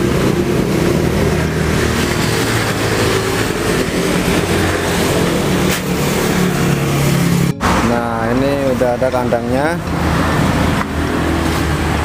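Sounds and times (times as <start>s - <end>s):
traffic noise: 0.0s - 12.0s
vehicle engine running: 0.0s - 12.0s.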